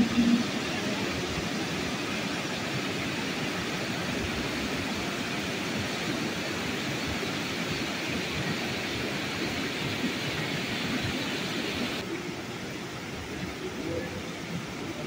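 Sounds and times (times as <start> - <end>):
river rushing over rapids: 0.0 - 15.0.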